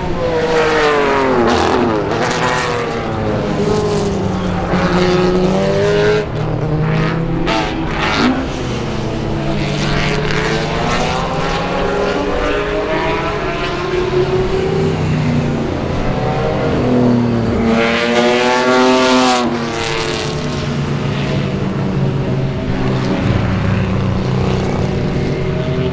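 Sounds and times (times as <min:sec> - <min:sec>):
race car engines at speed: 0:00.0 - 0:25.9
race car passing by: 0:00.0 - 0:25.9.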